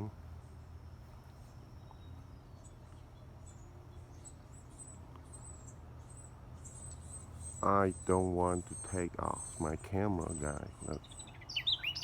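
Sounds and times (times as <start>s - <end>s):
high thin bird chirps: 1.4s - 12.0s.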